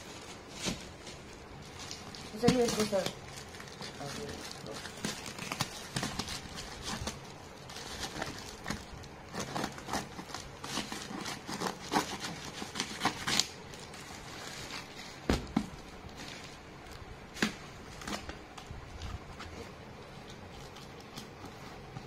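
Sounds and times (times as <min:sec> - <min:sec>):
plastic bag crinkling and rustling: 0:00.0 - 0:22.0.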